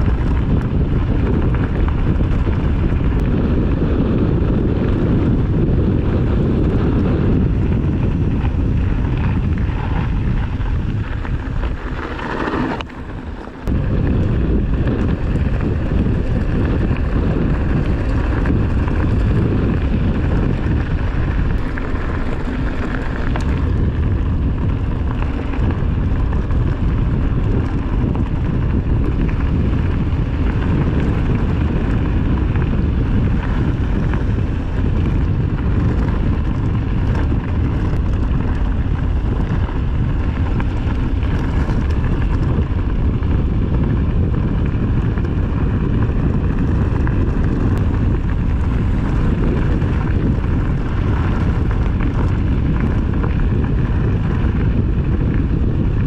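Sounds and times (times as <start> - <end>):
vehicle running: 0.0 - 56.0
wind rumble on microphone: 0.0 - 56.0.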